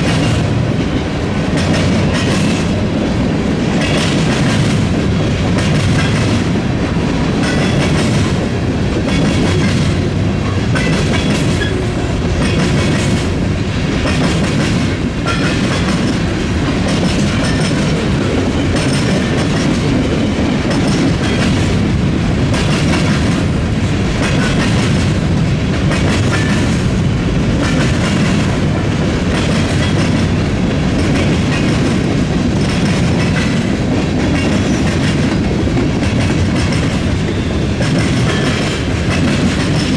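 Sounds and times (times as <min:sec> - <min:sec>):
freight train rumble: 0:00.0 - 0:39.9.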